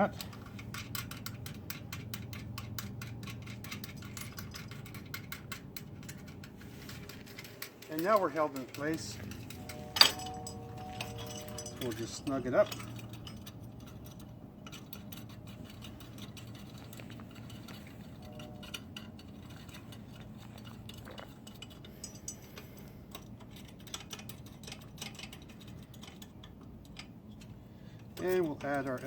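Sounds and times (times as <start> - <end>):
faint low hum: 0.0 - 29.0
wrench clinking on metal nuts: 0.0 - 29.0.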